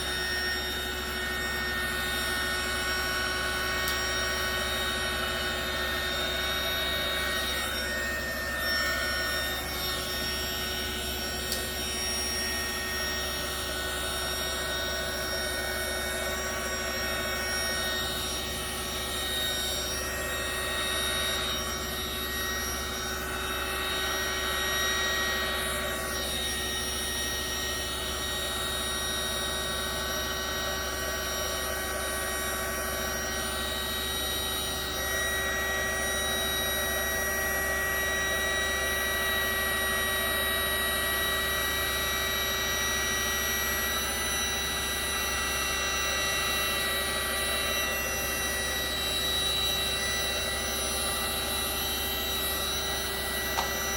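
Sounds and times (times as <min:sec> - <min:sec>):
electric blower whining: 0:00.0 - 0:53.9.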